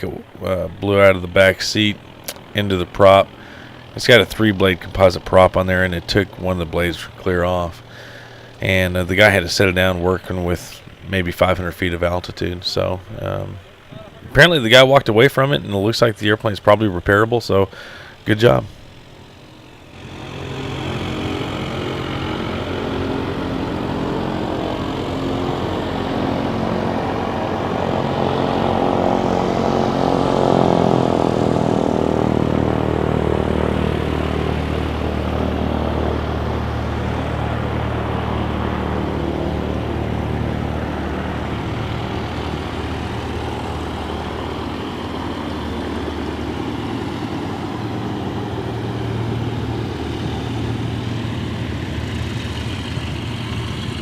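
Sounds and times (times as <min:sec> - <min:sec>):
propeller aircraft engine: 0:00.0 - 0:54.0.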